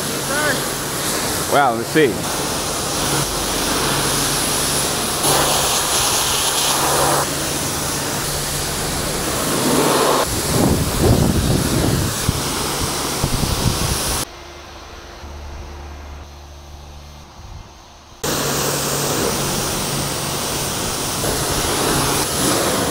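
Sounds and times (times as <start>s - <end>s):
low machine hum: 0.0s - 13.3s, 14.2s - 22.0s
pressure washer jet spraying: 0.0s - 14.3s, 18.2s - 22.9s.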